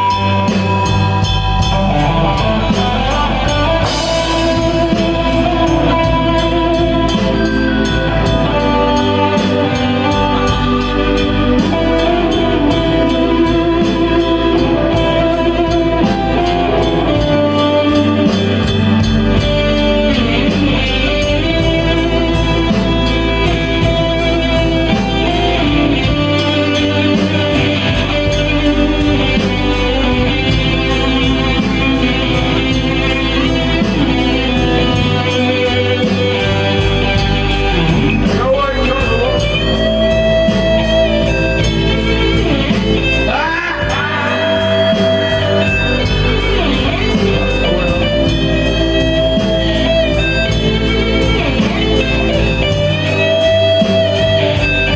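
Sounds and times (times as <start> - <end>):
bass: 0.0 - 54.9
electric guitar lead: 0.0 - 54.9
steady drum beat: 0.0 - 54.9.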